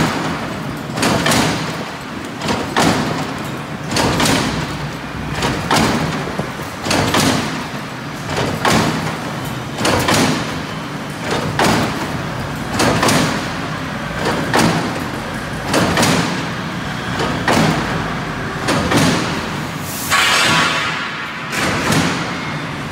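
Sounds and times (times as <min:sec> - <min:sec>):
heavy repeating mechanical stroke: 0:00.0 - 0:22.9.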